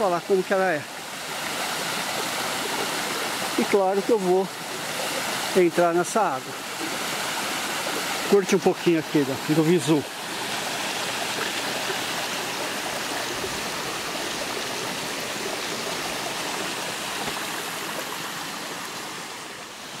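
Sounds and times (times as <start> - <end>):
small waterfall pouring into pool: 0.0 - 20.0.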